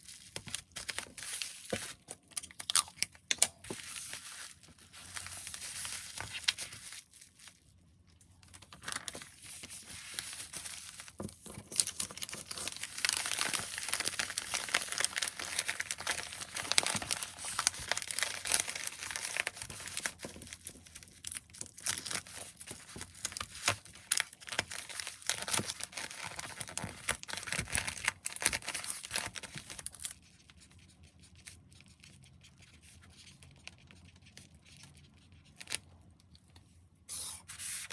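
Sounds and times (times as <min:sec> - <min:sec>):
packaging crinkling and tearing: 0:00.0 - 0:30.4.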